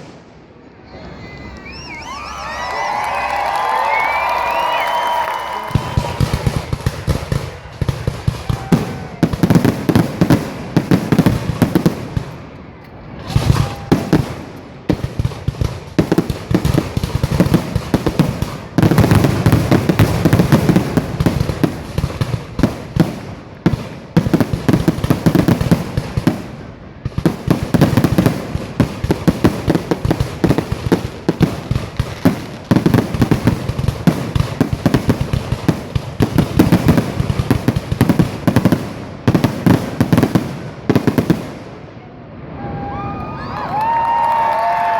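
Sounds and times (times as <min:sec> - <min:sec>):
fireworks bangs: 0:00.0 - 0:44.9.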